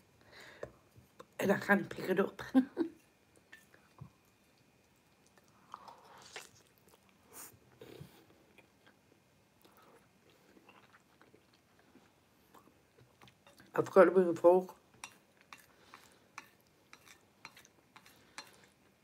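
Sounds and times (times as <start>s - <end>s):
soft chewing: 2.9s - 14.0s, 14.7s - 19.0s.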